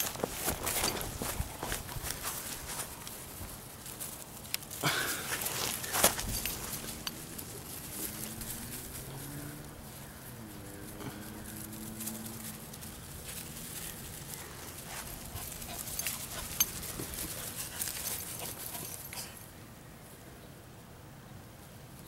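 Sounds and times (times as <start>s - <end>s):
puppies scuffling and rustling: 0.0s - 19.5s.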